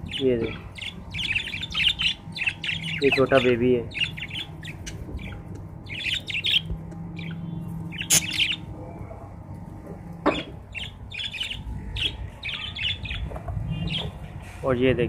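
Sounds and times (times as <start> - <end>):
budgerigars chattering: 0.0 - 8.7, 10.3 - 14.2.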